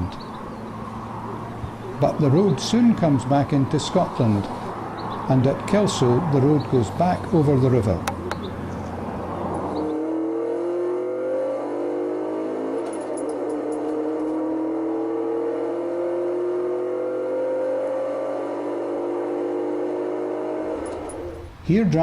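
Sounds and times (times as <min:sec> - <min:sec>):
car engine accelerating: 0:00.0 - 0:21.8.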